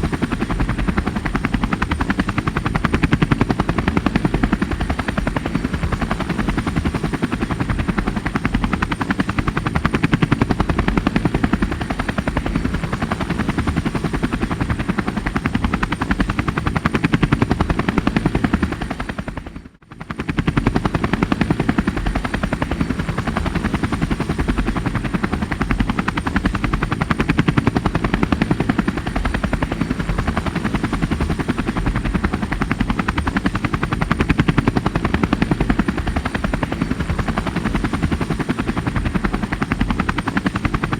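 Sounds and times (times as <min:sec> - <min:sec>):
helicopter rotor chopping: 0:00.0 - 0:40.9.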